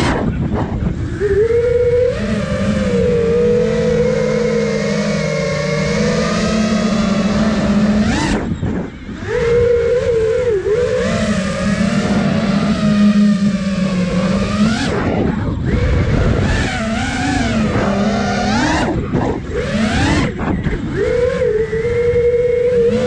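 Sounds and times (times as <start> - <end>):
quadcopter motors buzzing: 0.0 - 23.0.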